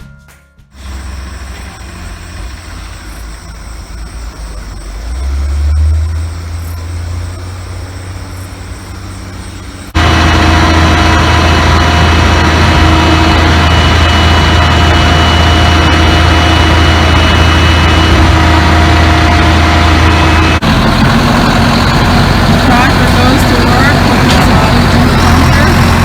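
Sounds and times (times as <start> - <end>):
farm machinery engine rumbling: 0.7 - 26.0.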